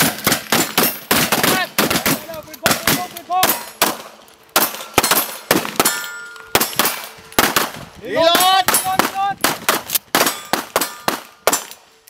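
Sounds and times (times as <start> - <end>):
gunshots: 0.0 - 11.8.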